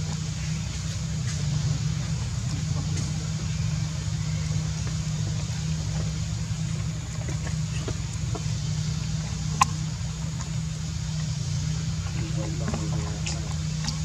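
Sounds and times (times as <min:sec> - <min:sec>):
engine idling hum: 0:00.0 - 0:14.0.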